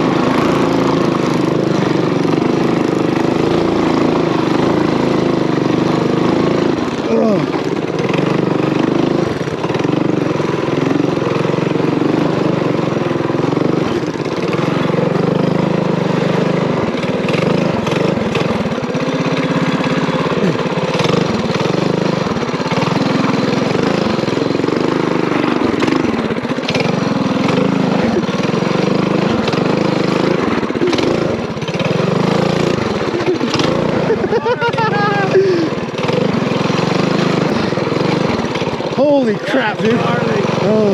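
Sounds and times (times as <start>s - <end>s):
mini bike engine revving: 0.0s - 40.9s.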